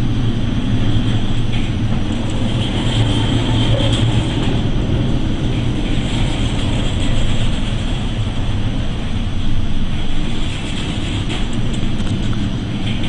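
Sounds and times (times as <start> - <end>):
low engine hum: 0.0 - 13.0
wind: 0.0 - 13.0.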